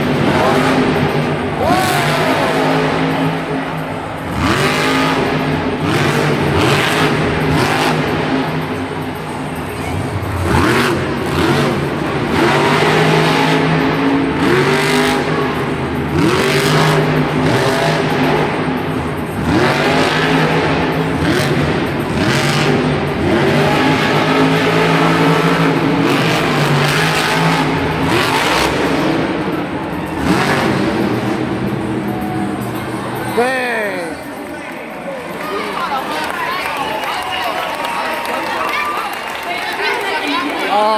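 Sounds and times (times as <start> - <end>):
monster truck engine revving: 0.0 - 34.5.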